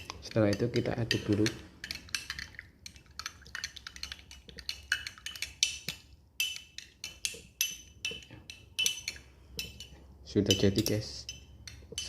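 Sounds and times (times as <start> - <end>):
spoon clinking against glass: 0.0 - 2.6, 3.6 - 12.0.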